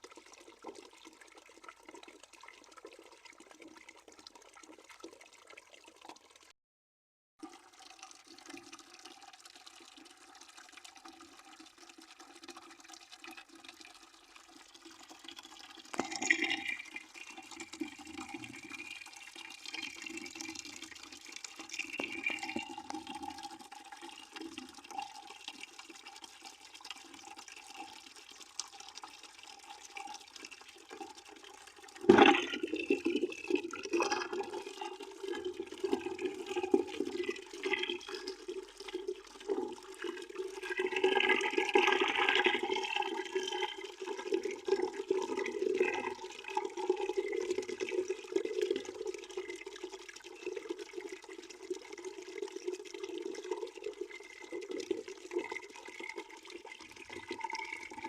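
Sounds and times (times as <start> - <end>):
water running into a bucket: 0.0 - 6.5, 7.4 - 58.0.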